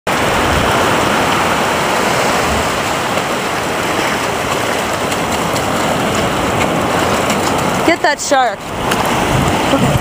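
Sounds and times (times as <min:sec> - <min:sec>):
surf washing up beach: 0:00.1 - 0:10.0.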